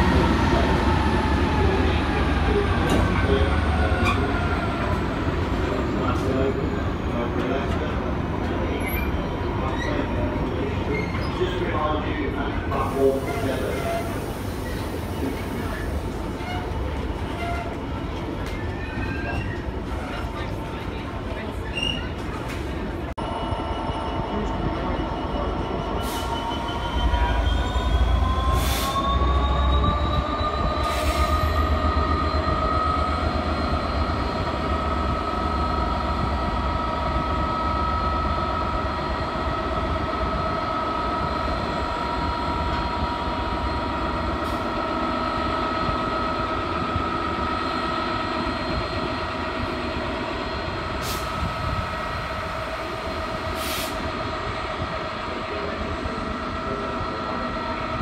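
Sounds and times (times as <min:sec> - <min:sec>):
diesel locomotive rumble: 0:00.0 - 0:58.0.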